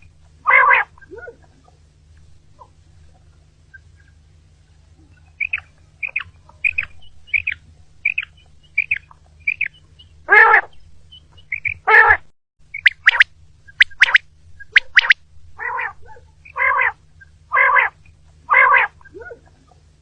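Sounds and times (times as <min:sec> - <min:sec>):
quail calling: 0:00.0 - 0:19.9.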